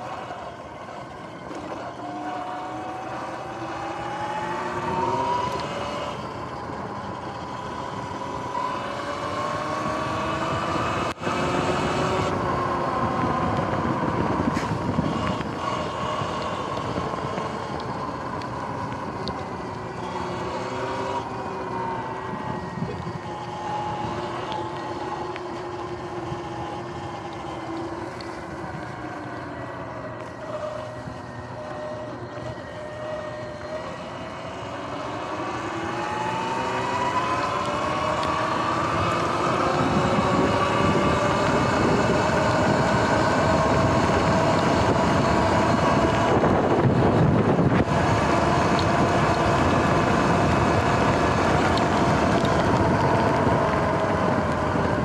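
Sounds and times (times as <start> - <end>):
electric motorbike motor whining: 0.0 - 55.0
wind and tyre noise: 0.0 - 55.0.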